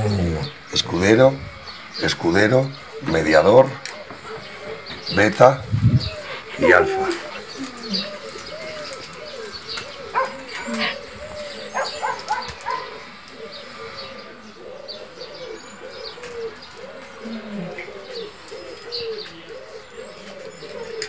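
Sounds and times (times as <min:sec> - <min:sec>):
birds cooing: 0:00.0 - 0:21.0.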